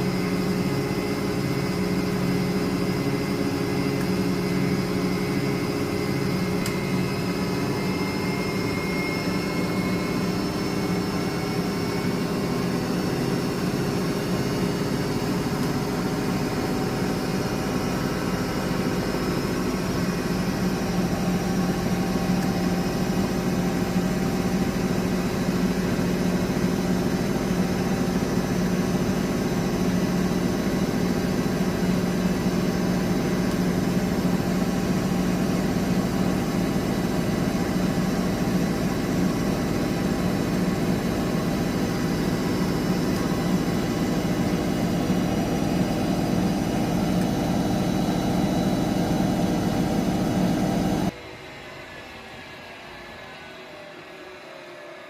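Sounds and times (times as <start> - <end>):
washing machine hum and whoosh: 0.0 - 53.9.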